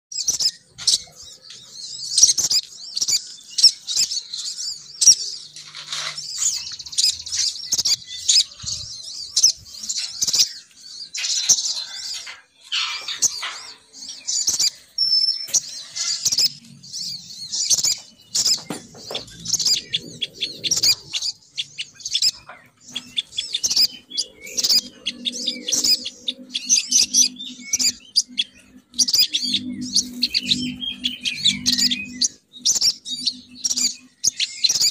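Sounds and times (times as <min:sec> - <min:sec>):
high-pitched bird chirps: 0:00.1 - 0:34.9.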